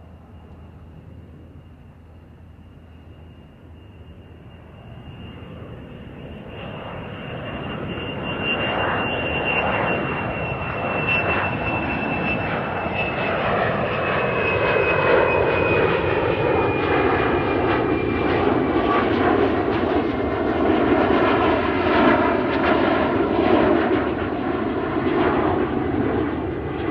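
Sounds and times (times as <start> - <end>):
airplane engine noise: 0.0 - 26.9.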